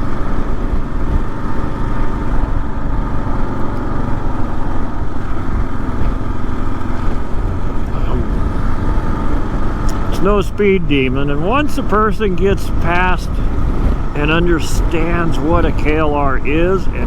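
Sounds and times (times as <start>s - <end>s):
motorcycle engine running: 0.0s - 17.0s
road noise: 0.0s - 17.0s
wind: 0.0s - 17.0s.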